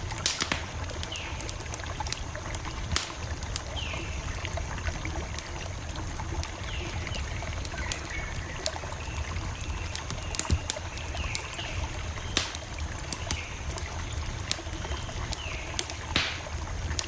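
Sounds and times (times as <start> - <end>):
campfire crackling and popping: 0.0 - 17.0
low rumble of burning wood: 0.0 - 17.0.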